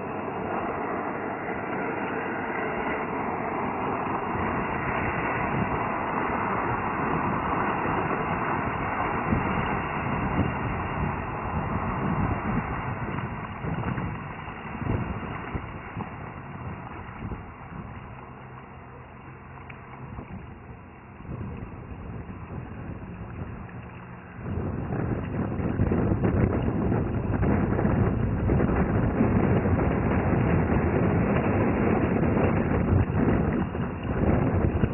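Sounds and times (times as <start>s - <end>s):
boat engine running: 0.0s - 34.9s
wind on microphone: 0.0s - 34.9s.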